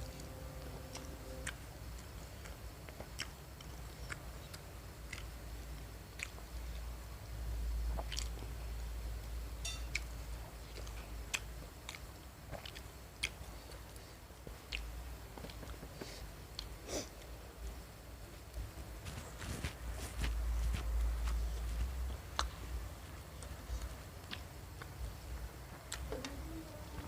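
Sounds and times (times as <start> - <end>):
chewing fried snacks: 0.0 - 7.0, 7.7 - 17.8, 18.5 - 27.0.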